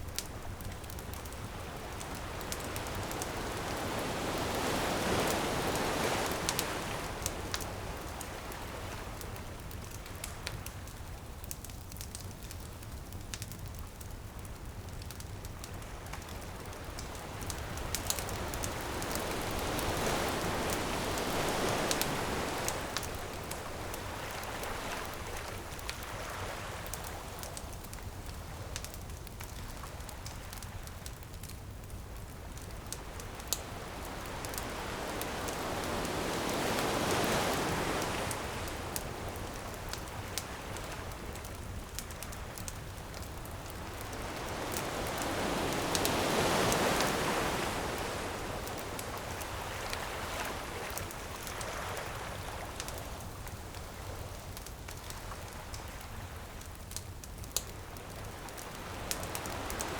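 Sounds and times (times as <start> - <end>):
ocean waves washing ashore: 0.0 - 11.6, 15.6 - 31.4, 32.0 - 59.9
bonfire crackling and popping: 0.0 - 59.9.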